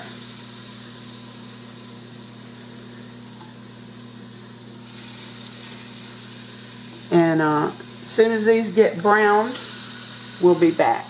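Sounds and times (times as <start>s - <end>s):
low appliance hum: 0.0s - 11.0s
oil sizzling hiss: 0.0s - 11.0s.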